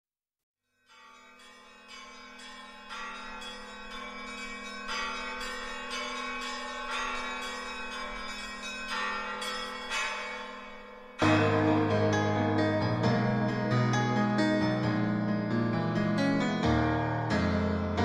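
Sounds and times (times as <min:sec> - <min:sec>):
church bells ringing: 0:00.9 - 0:18.0.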